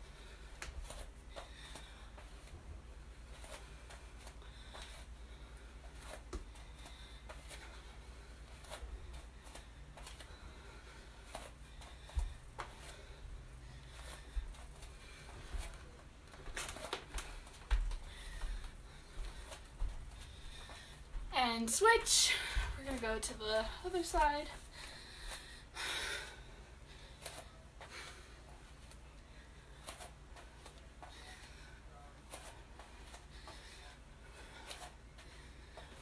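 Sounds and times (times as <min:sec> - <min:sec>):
person breathing: 0:00.0 - 0:21.3, 0:22.1 - 0:22.9, 0:23.7 - 0:36.0.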